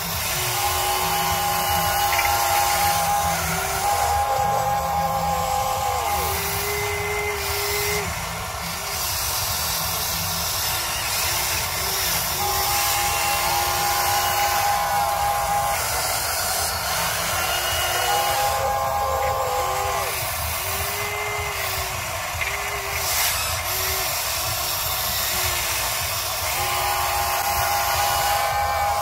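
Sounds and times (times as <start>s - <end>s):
steady hiss: 0.0s - 29.0s
toy excavator motors whining: 0.0s - 29.0s.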